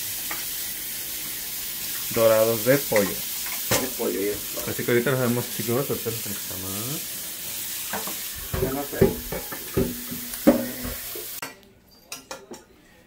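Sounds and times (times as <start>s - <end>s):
food sizzling on stove: 0.0s - 11.4s.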